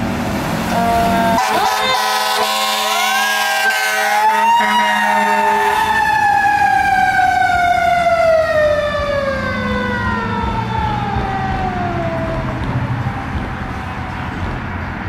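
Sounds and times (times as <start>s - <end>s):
mechanical fire siren winding down: 1.4s - 13.8s.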